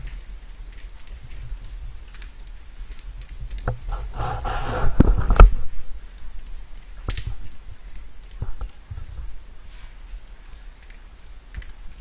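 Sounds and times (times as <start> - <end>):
rustling at microphone: 0.0 - 10.3
light rain: 0.0 - 12.0.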